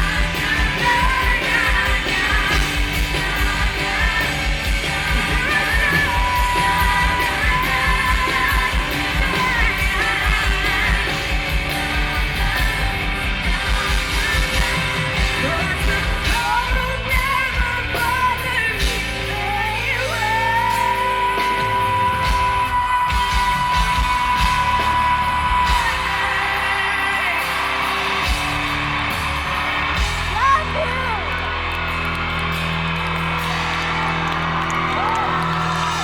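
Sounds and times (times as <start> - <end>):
rock band with driving beat: 0.0 - 36.0.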